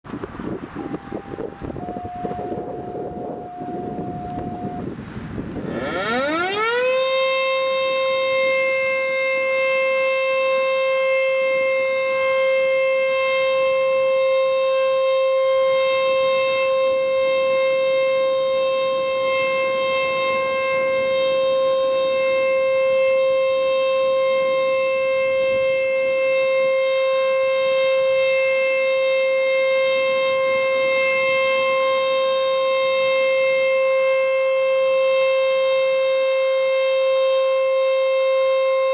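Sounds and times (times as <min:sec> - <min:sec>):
warning siren: 0:00.1 - 0:38.9.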